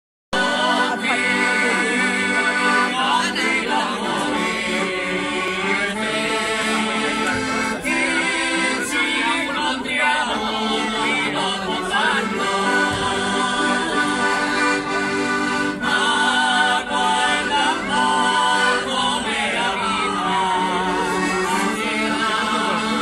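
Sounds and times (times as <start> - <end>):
accordion playing chords: 0.3 - 23.0
men singing in harmony: 0.4 - 23.0.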